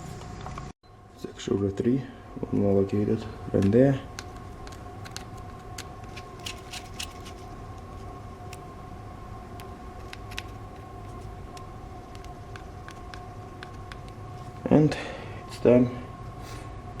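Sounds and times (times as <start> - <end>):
electrical hum with whine: 0.0 - 17.0.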